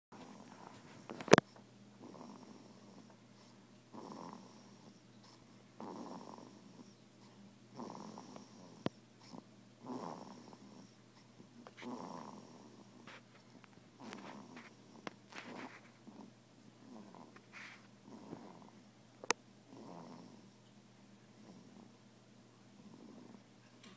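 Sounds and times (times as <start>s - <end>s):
baby snoring: 0.2s - 13.3s, 14.0s - 18.9s, 19.7s - 20.5s, 22.8s - 23.4s.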